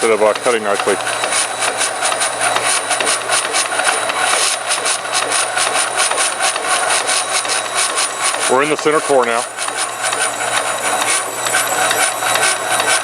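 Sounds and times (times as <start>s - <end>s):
bandsaw high whine: 0.0s - 13.0s.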